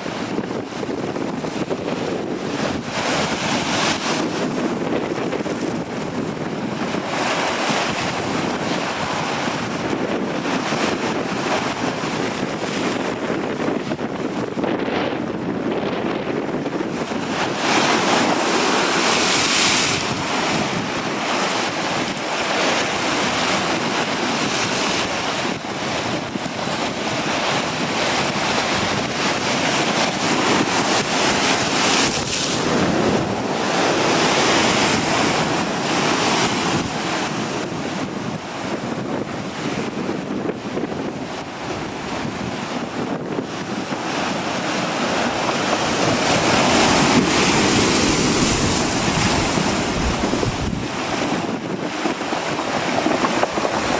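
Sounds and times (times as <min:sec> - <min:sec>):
ocean surf: 0:00.0 - 0:53.9
wind buffeting microphone: 0:00.0 - 0:53.9.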